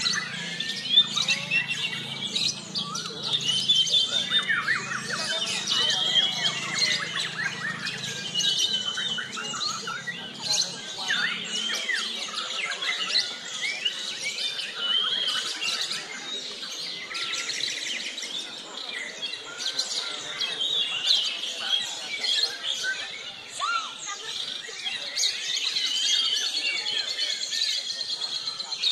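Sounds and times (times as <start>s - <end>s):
birds singing: 0.0s - 28.9s.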